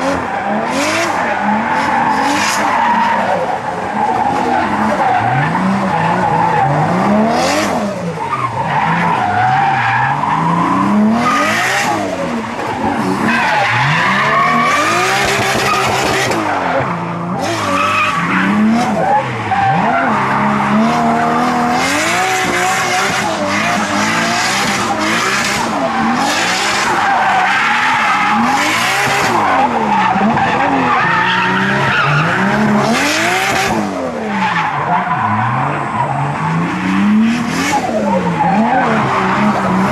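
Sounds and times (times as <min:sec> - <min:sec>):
turbocharged car engine revving: 0:00.0 - 0:39.9.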